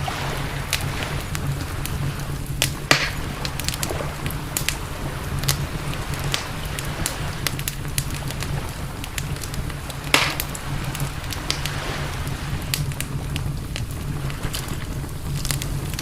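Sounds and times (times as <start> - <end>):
campfire crackling and popping: 0.0 - 16.0
campfire low rumble: 0.0 - 16.0.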